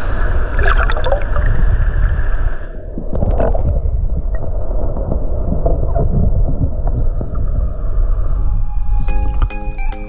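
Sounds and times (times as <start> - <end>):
underwater rumble and gurgle: 0.0 - 8.9.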